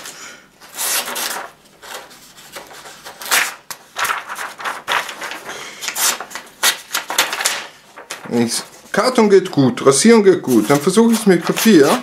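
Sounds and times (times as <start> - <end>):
paper rustling and crinkling: 0.0 - 9.2, 10.4 - 12.0.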